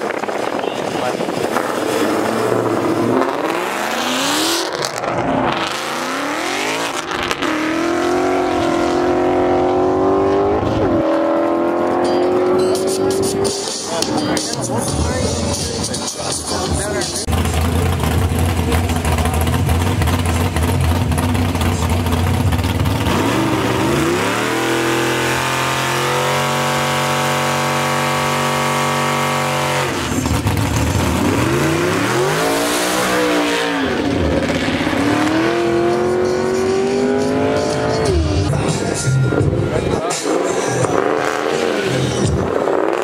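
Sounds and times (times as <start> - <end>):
drag racing car engine: 0.0 - 43.0.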